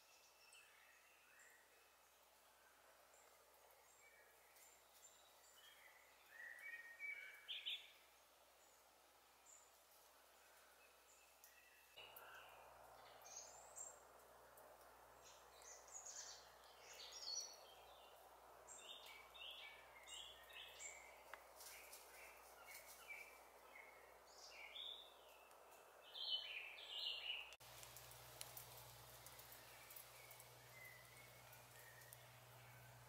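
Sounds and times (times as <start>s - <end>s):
birdsong: 0.0s - 33.0s
soft steady hiss: 0.0s - 33.0s.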